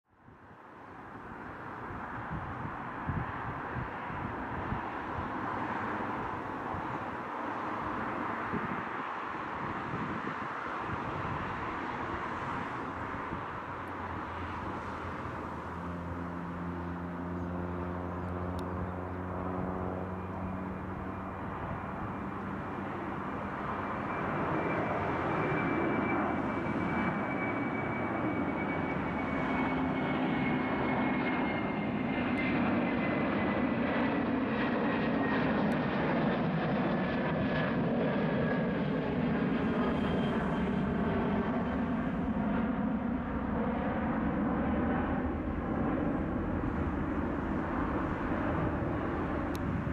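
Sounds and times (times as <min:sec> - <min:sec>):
jetliner taking off overhead: 0:00.2 - 0:49.9.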